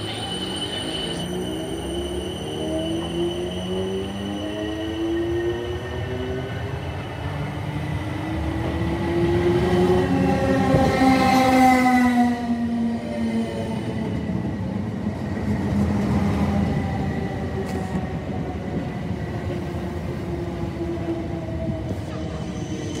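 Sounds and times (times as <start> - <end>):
train rumble and hum: 0.0 - 23.0.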